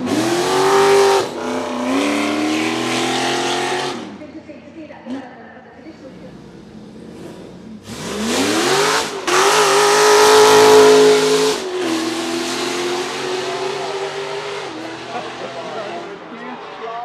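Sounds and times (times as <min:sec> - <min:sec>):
buggy engine revving: 0:00.0 - 0:04.4, 0:05.1 - 0:17.0.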